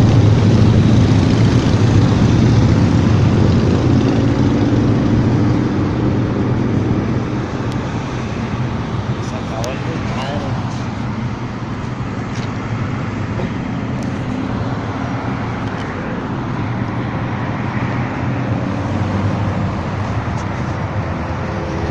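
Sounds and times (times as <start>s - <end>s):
motorcycle engines running: 0.0s - 21.9s
road and traffic noise: 0.0s - 21.9s.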